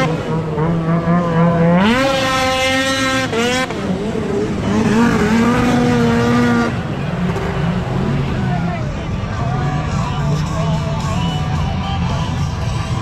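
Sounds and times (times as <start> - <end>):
second snowmobile engine: 0.0 - 13.0
snowmobile engine revving: 0.0 - 13.0.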